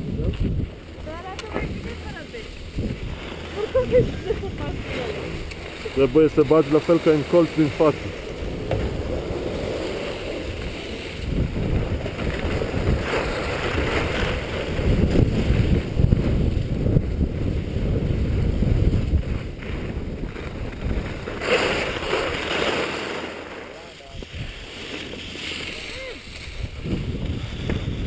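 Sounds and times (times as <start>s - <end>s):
wind buffeting microphone: 0.0s - 22.5s, 24.1s - 28.0s
skis scraping over snow: 0.0s - 28.0s.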